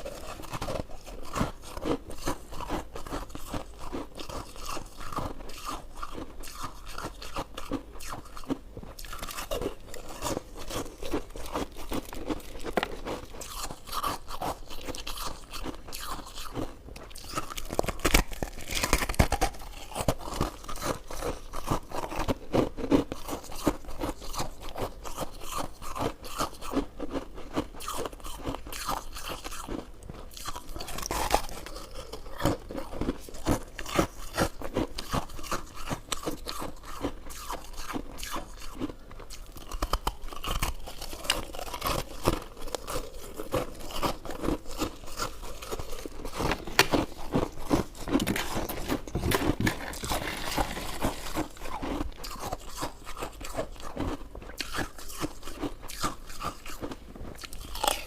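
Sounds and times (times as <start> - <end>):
person chewing chewy food: 0.0 - 58.0.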